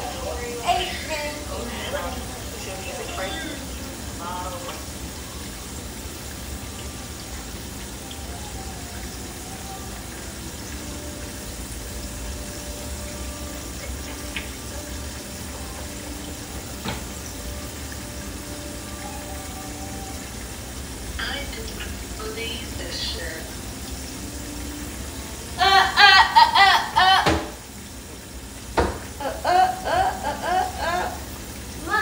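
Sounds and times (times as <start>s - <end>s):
pork chops sizzling in skillet: 0.0s - 32.0s.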